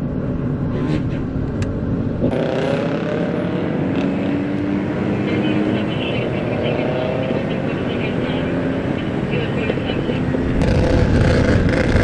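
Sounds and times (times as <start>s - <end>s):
vehicle engines on a street: 0.0s - 12.0s.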